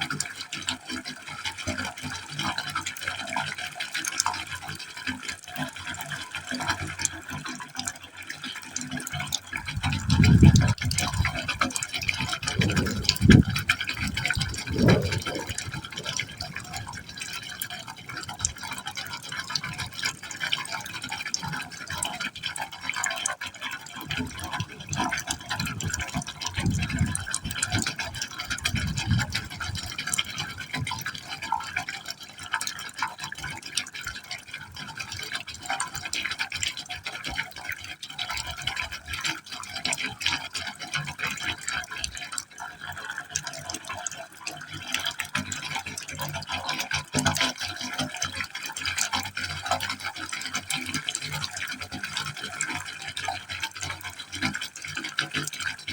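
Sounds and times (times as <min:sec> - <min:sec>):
water splashing and gurgling in pipe: 0:00.0 - 0:55.9.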